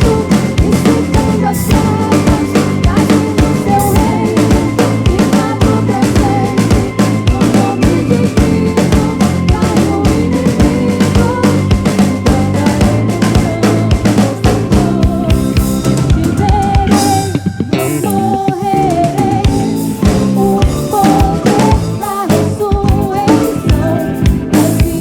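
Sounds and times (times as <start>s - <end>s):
drum kit beat: 0.0s - 25.0s
soul band playing: 0.0s - 25.0s
wavering lead melody: 0.0s - 25.0s.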